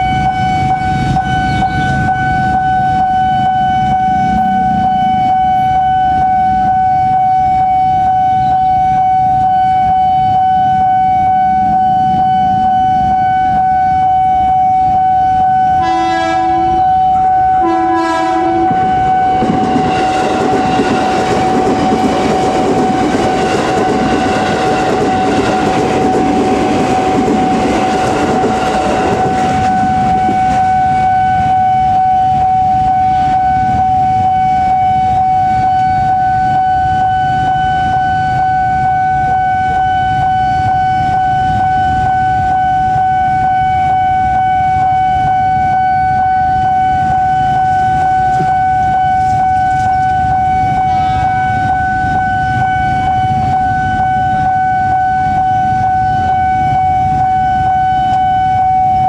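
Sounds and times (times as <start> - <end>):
level crossing alarm tone: 0.0 - 59.0
train horn blasts: 0.0 - 59.0
train wheels rumbling on rails: 0.0 - 59.0.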